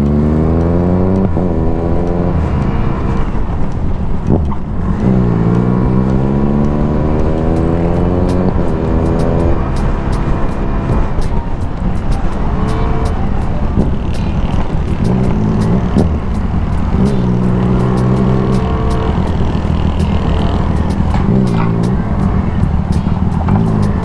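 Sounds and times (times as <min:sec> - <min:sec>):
background music with steady beat: 0:00.0 - 0:24.0
scooter engine running: 0:00.0 - 0:24.0.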